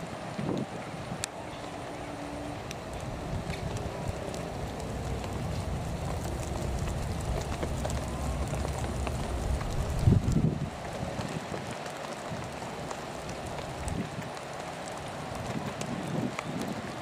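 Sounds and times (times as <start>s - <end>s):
steady rain falling: 0.0s - 17.0s
wind rumble on microphone: 0.0s - 17.0s
faint raindrop ticks: 0.2s - 17.0s.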